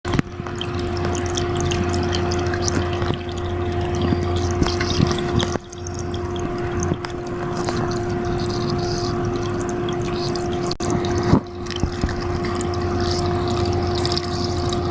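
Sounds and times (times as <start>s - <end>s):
fan motor humming: 0.0s - 14.9s
water trickling: 0.0s - 14.9s.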